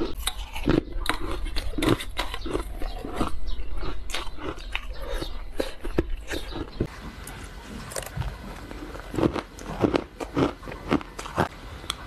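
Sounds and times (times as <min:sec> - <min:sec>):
crushed ice being chewed: 0:00.0 - 0:12.0.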